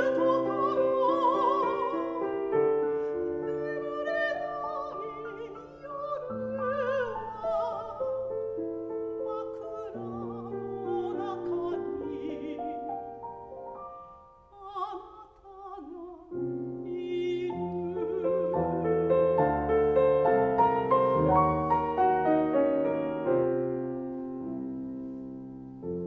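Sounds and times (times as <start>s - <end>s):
grand piano: 0.0s - 26.0s
soprano singing: 0.0s - 26.0s.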